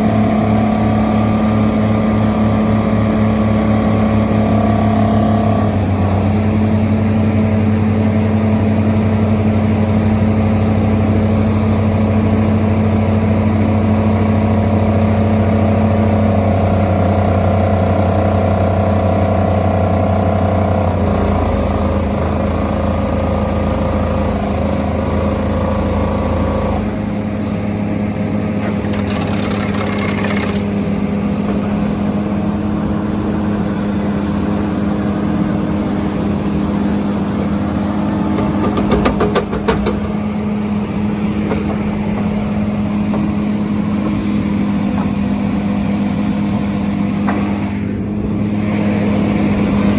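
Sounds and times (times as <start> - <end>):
excavator engine drone: 0.0 - 49.9.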